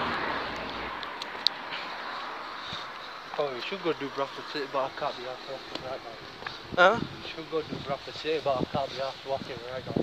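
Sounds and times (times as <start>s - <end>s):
passing vehicle engine: 0.0s - 8.3s
low hiss: 1.9s - 10.0s.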